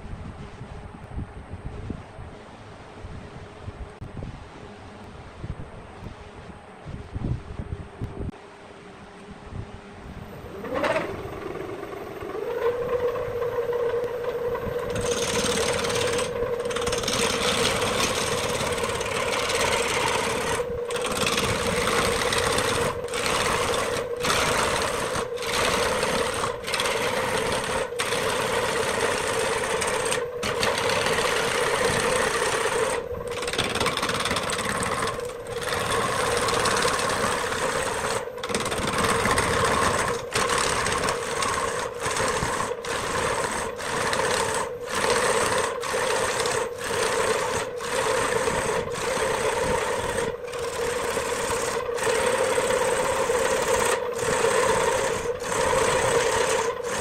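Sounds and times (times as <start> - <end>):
lathe motor humming: 10.2 - 57.0
tool cutting wood on lathe: 10.5 - 57.0.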